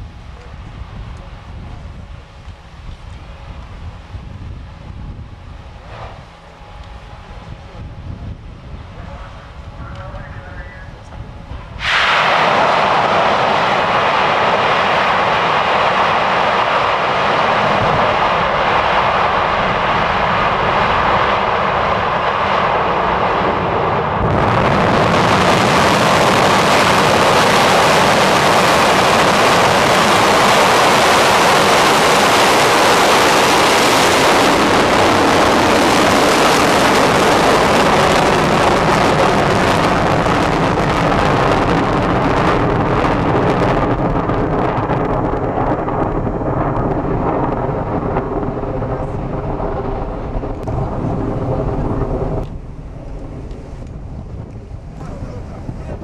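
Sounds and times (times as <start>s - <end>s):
rocket engines roaring: 0.0s - 56.0s.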